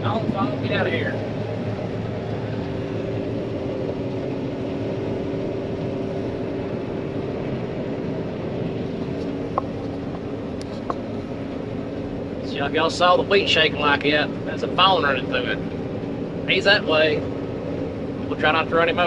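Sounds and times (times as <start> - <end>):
combine harvester humming: 0.0 - 19.0.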